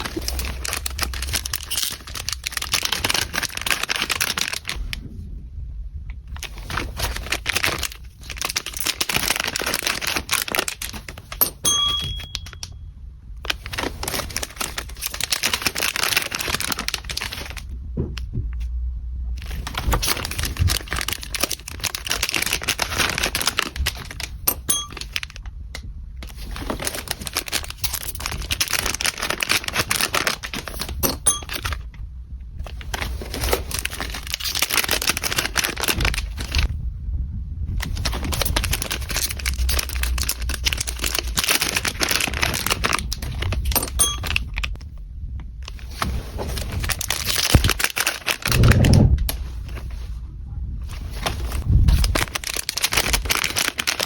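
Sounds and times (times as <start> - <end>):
packaging crinkling and tearing: 0.0 - 5.0, 6.3 - 11.6, 13.4 - 17.7, 19.4 - 25.5, 26.2 - 31.9, 32.6 - 36.7, 37.7 - 45.0, 45.6 - 50.1, 50.9 - 54.0.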